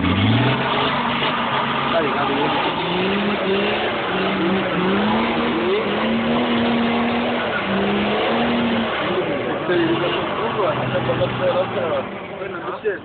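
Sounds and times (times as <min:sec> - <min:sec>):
buggy engine revving hard: 0:00.0 - 0:12.2.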